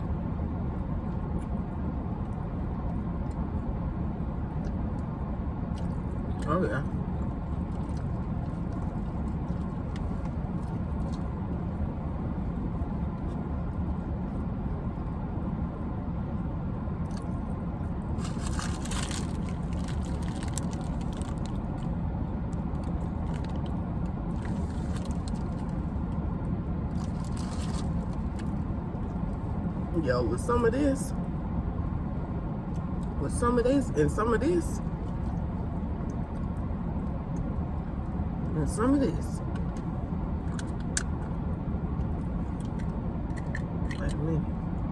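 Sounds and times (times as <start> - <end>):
steady low rumble: 0.0 - 44.9.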